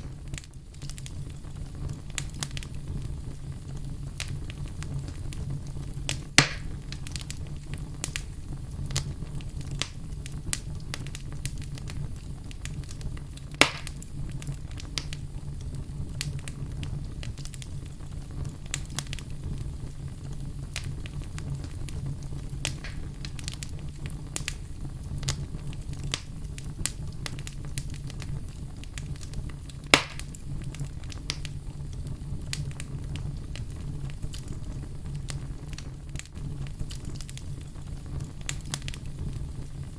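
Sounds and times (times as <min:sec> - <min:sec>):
fireplace fire crackling: 0:00.0 - 0:39.9
loud fire pops: 0:00.0 - 0:39.9
low fire rumble: 0:00.0 - 0:39.9.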